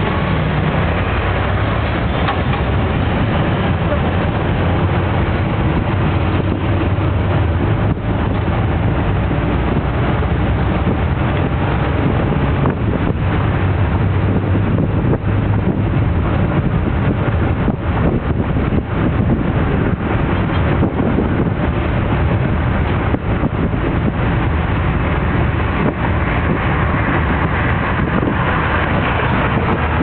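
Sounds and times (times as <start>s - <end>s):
engine drone: 0.0s - 30.0s
road rumble: 0.0s - 30.0s
wind buffeting microphone: 0.0s - 30.0s.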